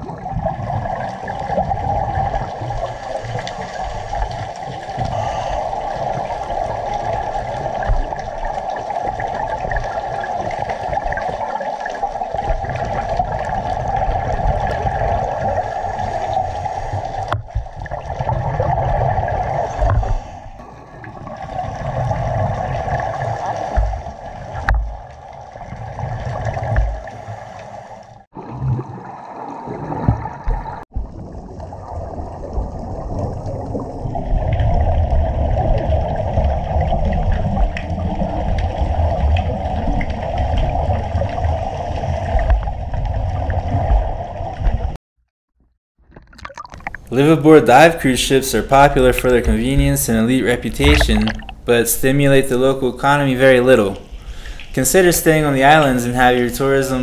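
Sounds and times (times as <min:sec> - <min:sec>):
underwater gurgling and rushing: 0:00.0 - 0:45.0, 0:46.0 - 0:57.0.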